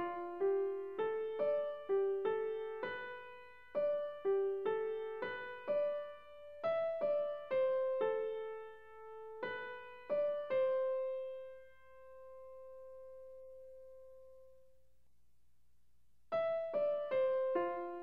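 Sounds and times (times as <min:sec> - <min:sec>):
slow piano melody: 0:00.0 - 0:14.7, 0:16.3 - 0:18.0.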